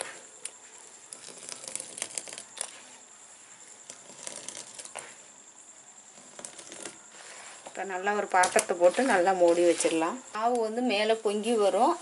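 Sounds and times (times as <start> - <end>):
hand mixing wet batter: 0.0 - 5.4, 6.0 - 10.2.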